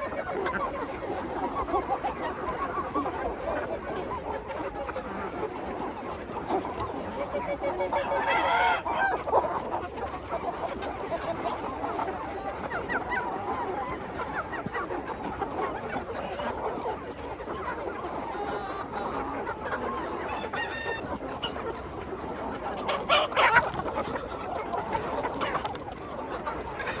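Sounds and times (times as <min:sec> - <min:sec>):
chickens clucking and peeping: 0:00.0 - 0:27.0.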